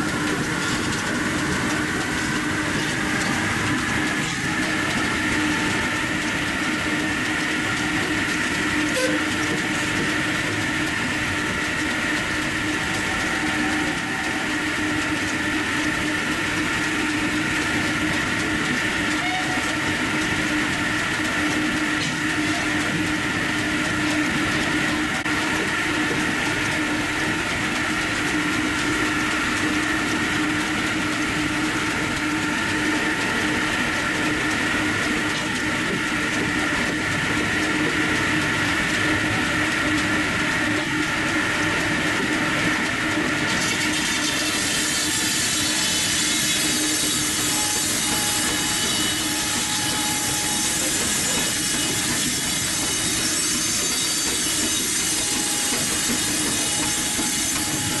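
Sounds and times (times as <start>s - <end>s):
circular saw cutting log: 0.0s - 58.0s.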